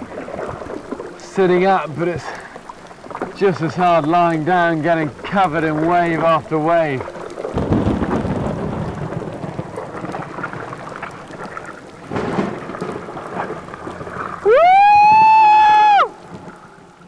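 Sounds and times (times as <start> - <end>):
sea water splashing around boat: 0.0 - 17.0
wind: 0.0 - 17.0.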